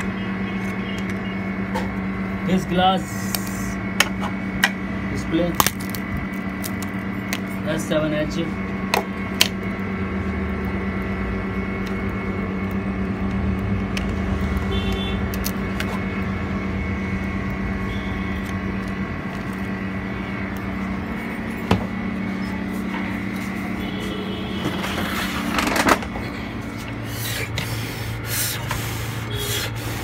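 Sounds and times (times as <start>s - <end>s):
compressor electric hum: 0.0s - 30.0s.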